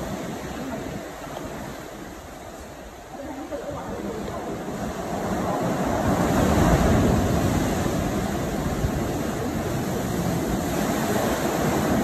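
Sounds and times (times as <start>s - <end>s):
sea waves booming in rock cave: 0.0s - 12.0s.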